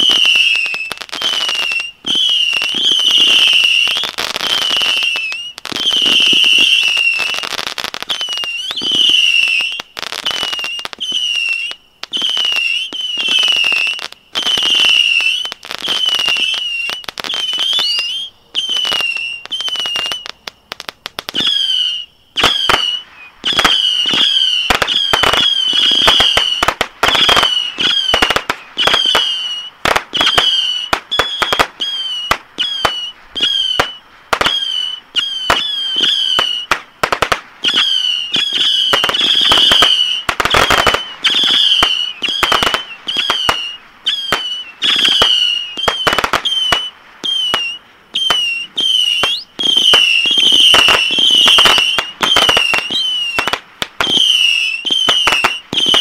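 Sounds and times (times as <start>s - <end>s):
fireworks whistling and popping: 0.0s - 56.0s.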